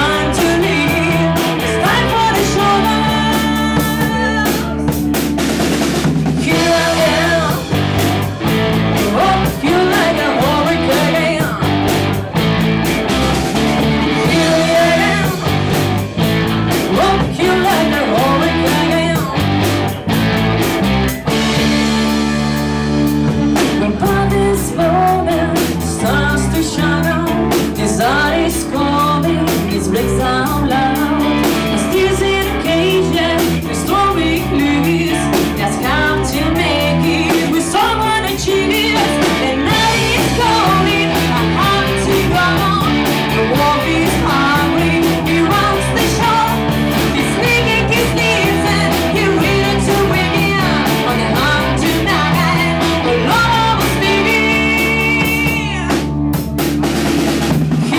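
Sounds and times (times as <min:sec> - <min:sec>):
hard rock music: 0:00.0 - 0:57.9.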